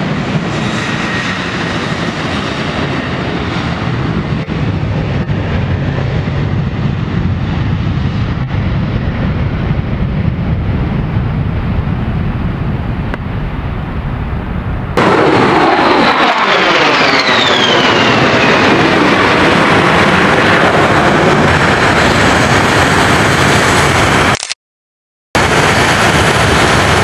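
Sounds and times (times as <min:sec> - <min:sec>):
fighter jet passing low: 0:00.0 - 0:24.4, 0:25.4 - 0:27.0
jet engines rumbling: 0:00.0 - 0:24.4, 0:25.4 - 0:27.0.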